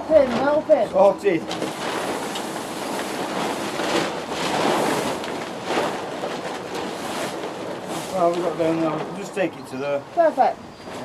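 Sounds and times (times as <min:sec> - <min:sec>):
plastic tarpaulin rustling: 0:00.0 - 0:10.0.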